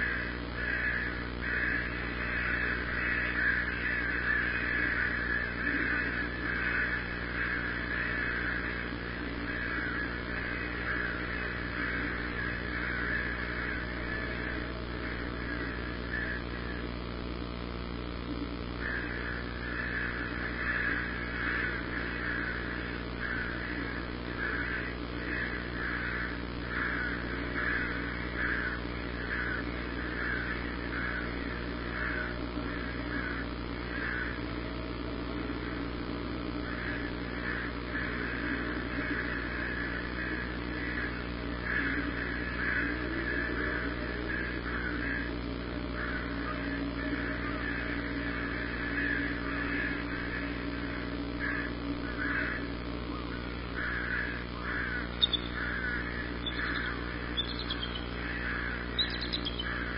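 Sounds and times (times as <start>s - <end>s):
birds cawing: 0.0s - 59.9s.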